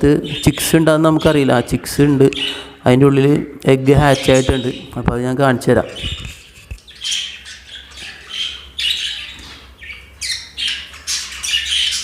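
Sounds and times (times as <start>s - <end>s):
birds squawking: 0.0s - 3.2s, 3.9s - 5.0s, 5.7s - 12.0s.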